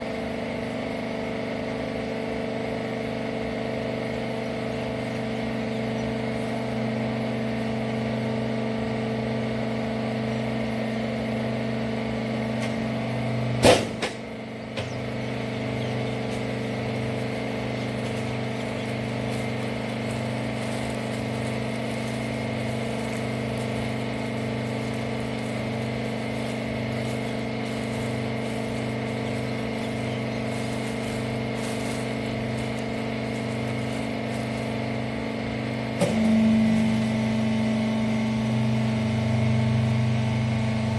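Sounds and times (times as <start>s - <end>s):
baler machine humming: 0.0s - 40.9s.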